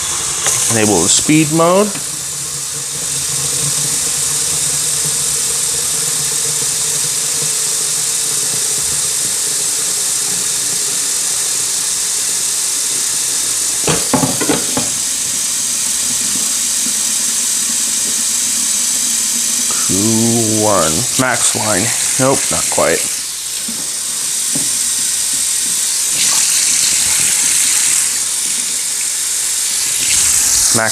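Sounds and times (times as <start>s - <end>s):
tap water running into tank: 0.0s - 30.9s.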